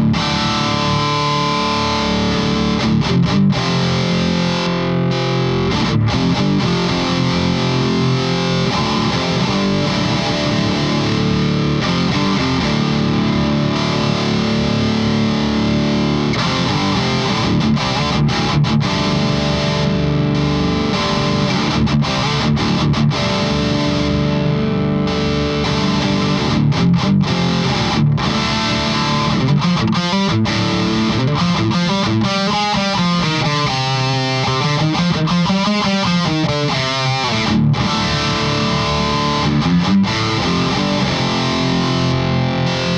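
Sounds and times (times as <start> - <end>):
distorted electric guitar riffs: 0.0 - 42.9.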